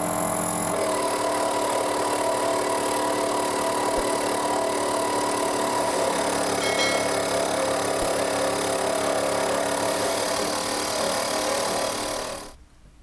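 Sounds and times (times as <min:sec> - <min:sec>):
power tool humming: 0:00.0 - 0:12.6.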